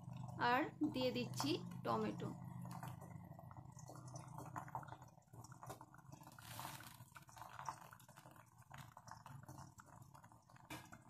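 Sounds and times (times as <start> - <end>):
egg sizzling in oil: 1.0 - 11.0.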